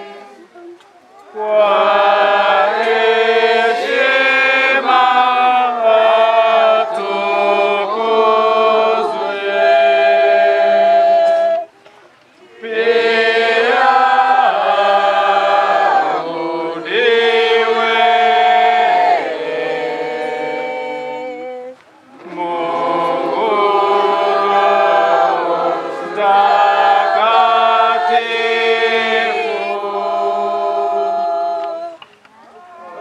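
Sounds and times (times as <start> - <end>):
church choir singing: 0.0 - 0.5, 1.3 - 11.7, 12.4 - 32.1.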